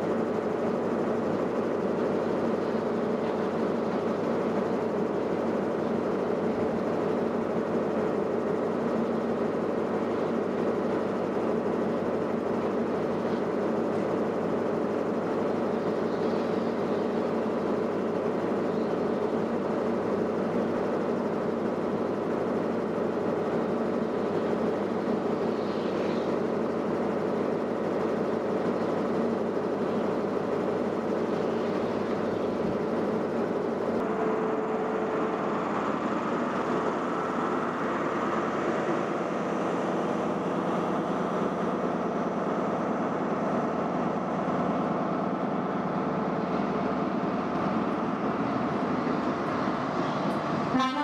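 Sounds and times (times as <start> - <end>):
diesel train engine idling: 0.0 - 51.0.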